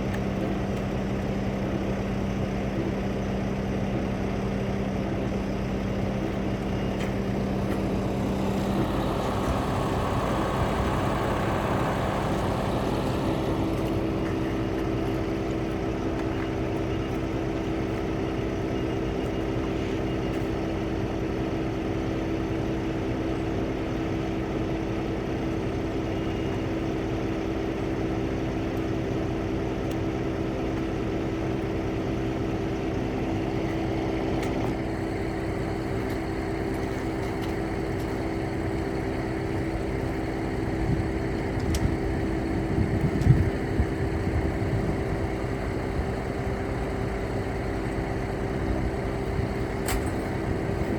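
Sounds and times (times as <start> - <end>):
engine running: 0.0 - 50.9.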